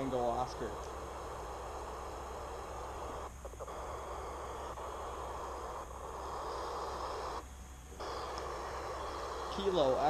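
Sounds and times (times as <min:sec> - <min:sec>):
low hum: 0:00.0 - 0:10.0
radio static hissing: 0:00.0 - 0:10.0.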